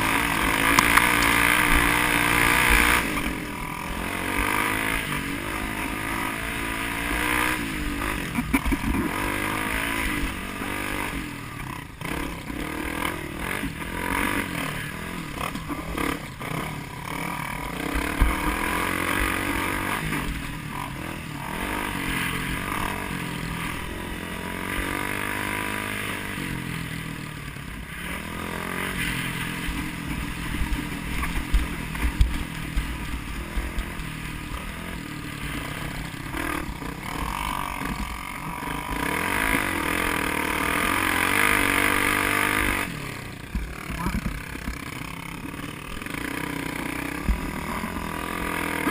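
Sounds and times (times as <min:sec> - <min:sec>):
vehicle engine revving: 0:00.0 - 0:48.9.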